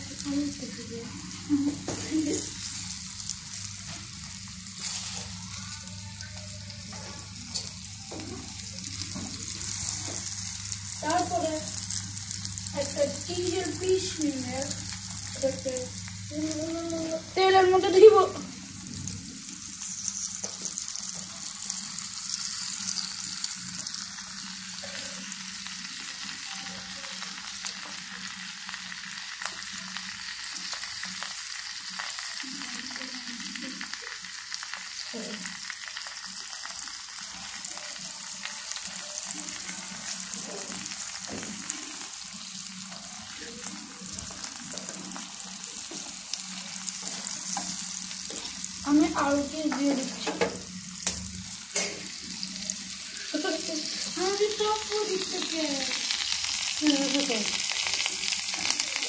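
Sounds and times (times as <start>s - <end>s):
food deep-frying in oil: 0.0s - 59.0s.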